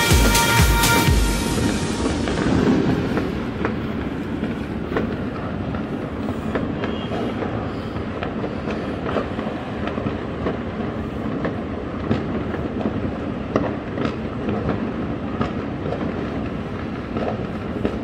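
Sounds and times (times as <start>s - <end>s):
distant firecrackers crackling: 0.0s - 18.0s
firework bangs: 0.0s - 18.0s.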